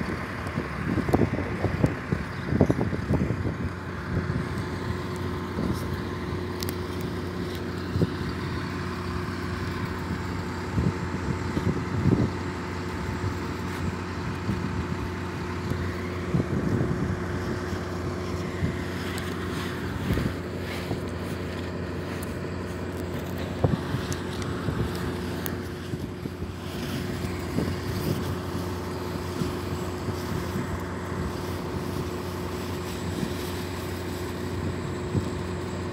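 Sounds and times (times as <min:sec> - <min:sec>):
machinery engine running: 0:00.0 - 0:35.9.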